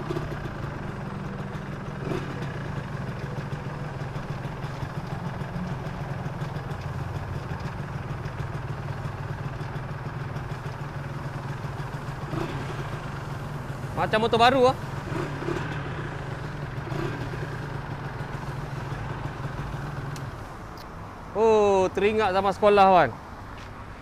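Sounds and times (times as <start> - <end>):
two-stroke engine idling: 0.0 - 23.0.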